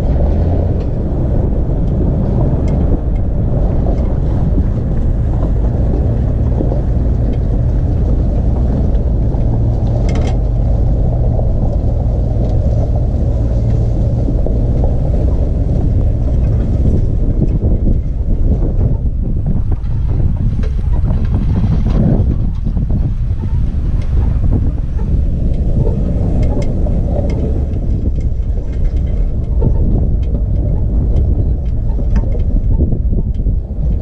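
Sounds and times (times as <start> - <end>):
vehicle engine at low revs: 0.0 - 34.0
wind rumble on microphone: 0.0 - 34.0.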